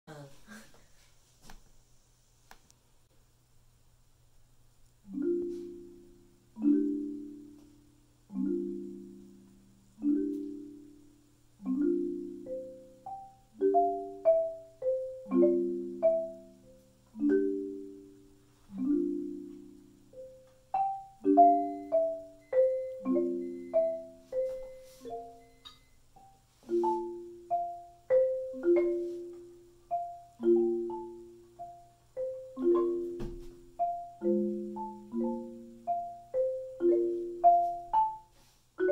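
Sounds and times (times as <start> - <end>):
marimba chords: 5.1 - 7.6, 8.3 - 38.9
marimba melody: 5.1 - 7.6, 8.3 - 38.9.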